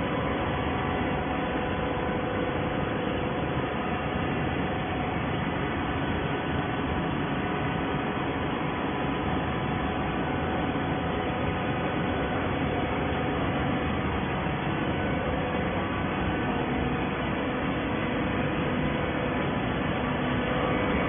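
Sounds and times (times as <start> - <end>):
baling machine humming: 0.0 - 21.0.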